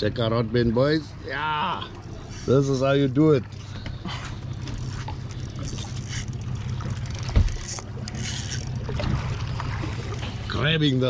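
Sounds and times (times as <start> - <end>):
boat motor idling: 0.0 - 11.0
water lapping against hull: 0.0 - 11.0.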